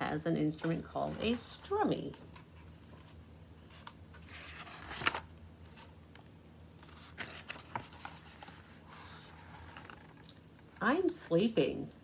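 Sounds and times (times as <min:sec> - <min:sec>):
book pages turning: 0:00.6 - 0:10.8.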